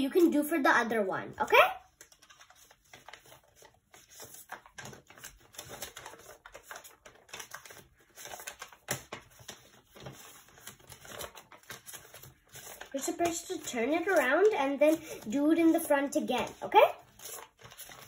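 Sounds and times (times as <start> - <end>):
paper crinkling: 1.9 - 18.0.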